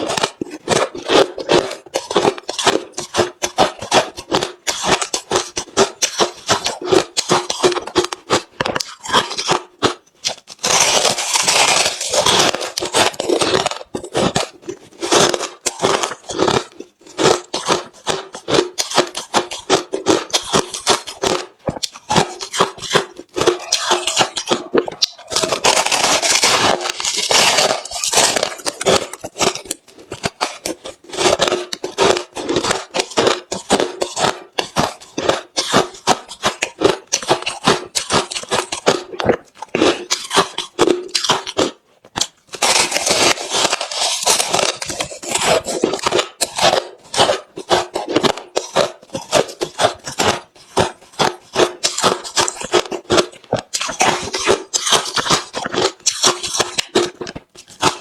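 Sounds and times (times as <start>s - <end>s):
ice being chewed crunching: 0.0s - 58.0s.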